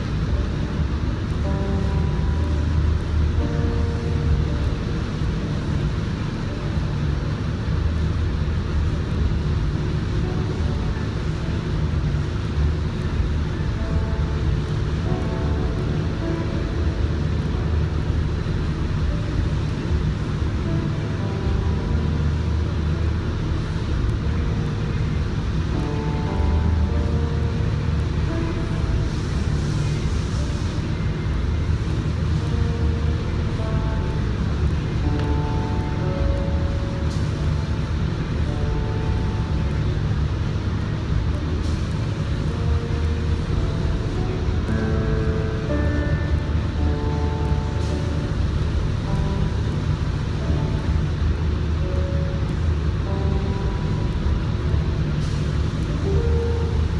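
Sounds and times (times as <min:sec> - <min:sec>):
exhaust fan running: 0:00.0 - 0:56.9
spray booth machinery drone: 0:00.0 - 0:56.9.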